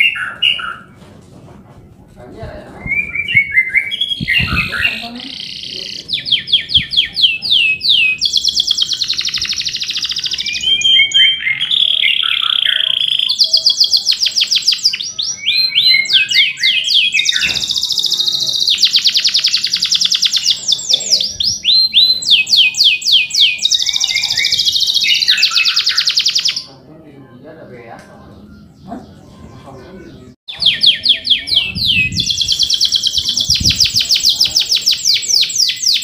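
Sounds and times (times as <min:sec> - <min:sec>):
canary singing trills: 0:00.0 - 0:01.0, 0:02.7 - 0:36.0
canary chirped phrases: 0:03.2 - 0:26.8, 0:28.2 - 0:36.0.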